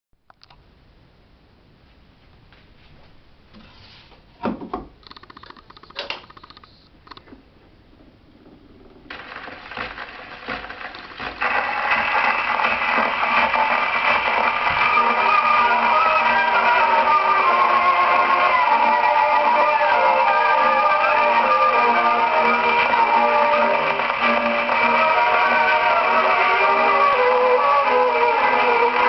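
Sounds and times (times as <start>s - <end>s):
record needle hiss and crackle: 4.9s - 29.0s.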